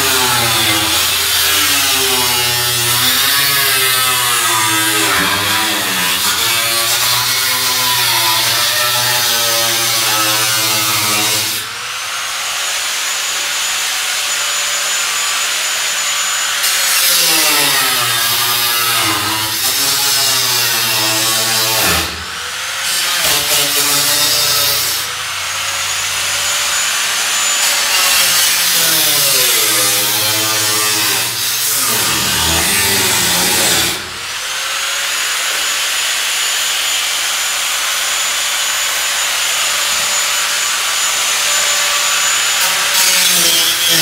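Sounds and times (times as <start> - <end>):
angle grinder cutting metal: 0.0 - 44.0.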